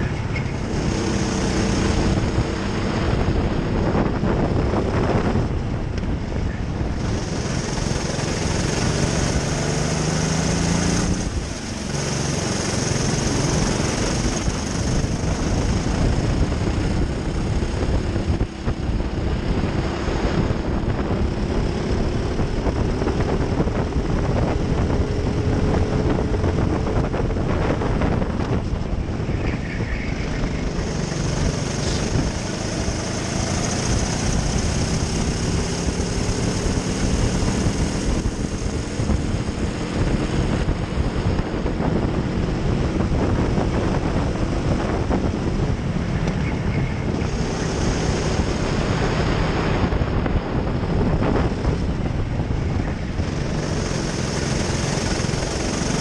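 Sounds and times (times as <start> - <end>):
kart engine running hard: 0.0 - 56.0
wind and road noise: 0.0 - 56.0.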